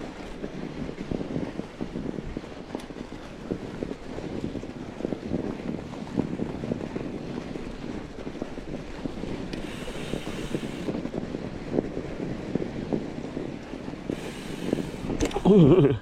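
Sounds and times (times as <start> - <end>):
bike tyres crunching on snow: 0.0 - 15.6
wind buffeting microphone: 0.0 - 16.0.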